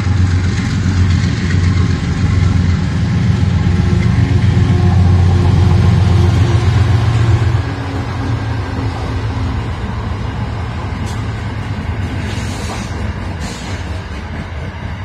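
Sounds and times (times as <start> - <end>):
diesel locomotive engines droning: 0.0 - 15.0.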